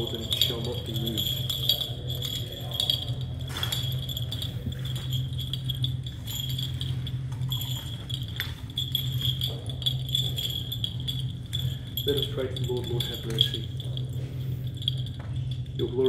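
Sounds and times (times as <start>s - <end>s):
small metal bells jingling: 0.0s - 16.0s
steady low hum: 0.0s - 16.0s.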